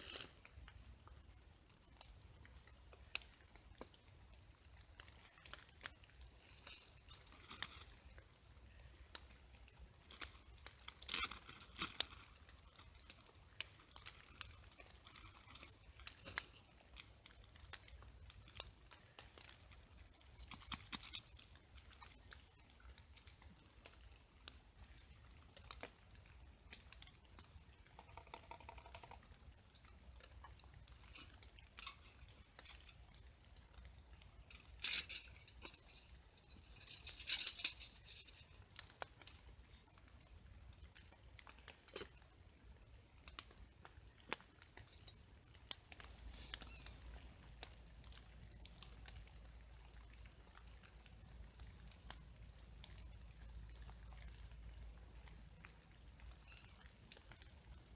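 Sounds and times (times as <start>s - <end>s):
crinkly bursts: 0.0s - 57.9s
rustling and crunching: 0.0s - 57.9s.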